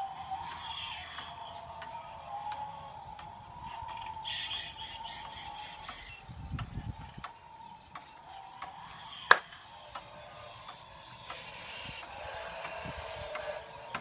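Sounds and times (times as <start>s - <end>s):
mechanical ticking: 0.0s - 14.0s.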